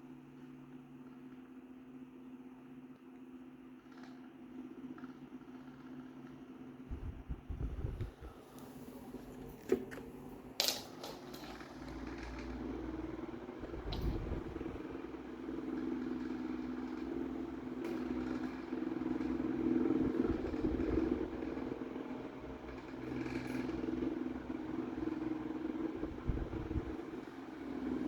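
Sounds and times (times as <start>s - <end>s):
desk fan humming and vibrating: 0.0s - 28.0s.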